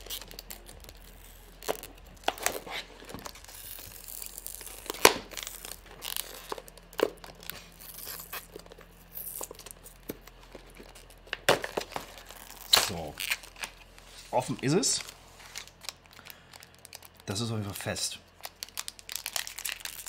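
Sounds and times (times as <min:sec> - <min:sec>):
snack packaging crinkling: 0:00.0 - 0:20.0.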